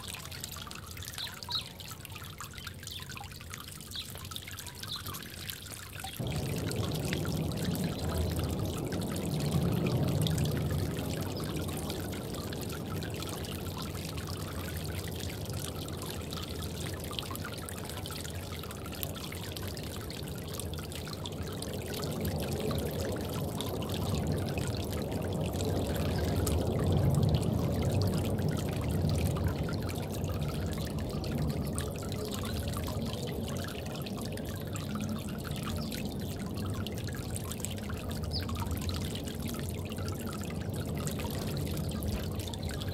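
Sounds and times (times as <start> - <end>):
water trickling in bird bath: 0.0 - 42.9.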